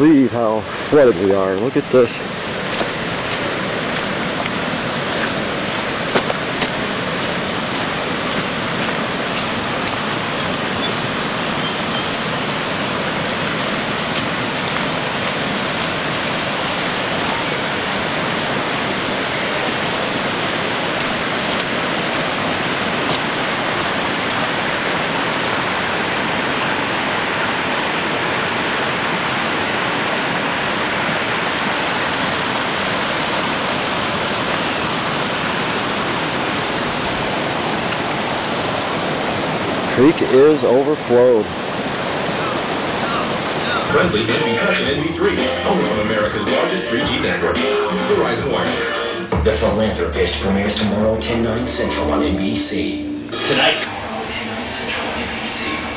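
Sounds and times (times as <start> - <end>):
floodwater roaring: 0.0 - 55.9.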